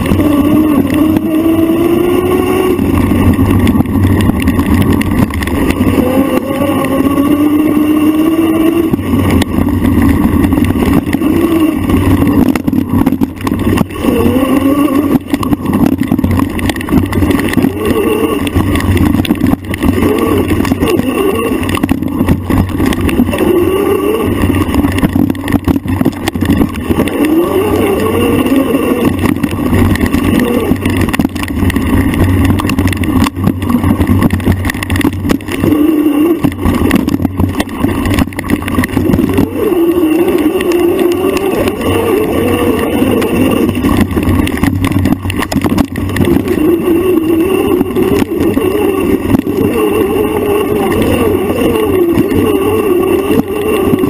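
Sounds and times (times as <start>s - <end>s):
motorbike engine revving: 0.0s - 37.2s, 38.1s - 44.6s, 45.5s - 54.0s
wind and trail noise: 0.0s - 54.0s.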